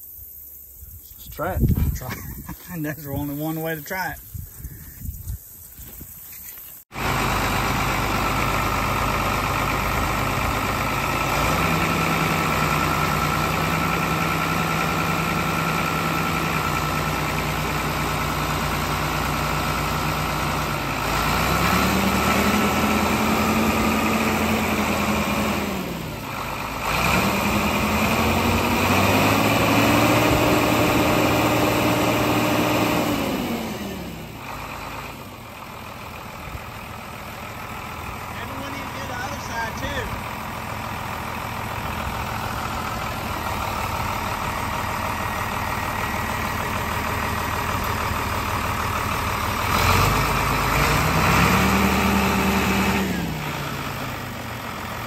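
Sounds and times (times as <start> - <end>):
tractor engine revving: 1.2 - 5.0, 6.9 - 55.0.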